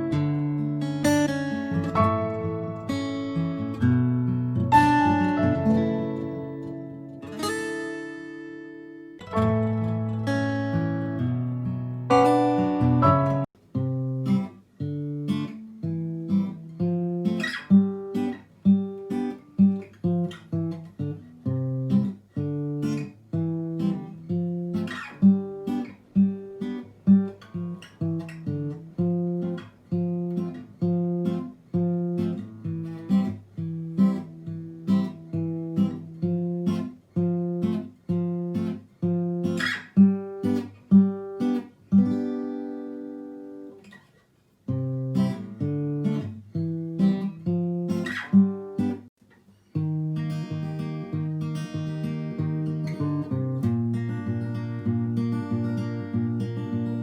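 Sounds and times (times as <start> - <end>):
acoustic guitar picking: 0.0 - 57.0.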